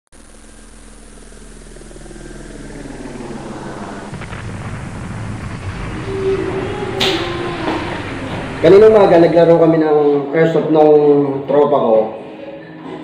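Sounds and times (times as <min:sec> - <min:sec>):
deep noisy swell: 0:00.2 - 0:11.0.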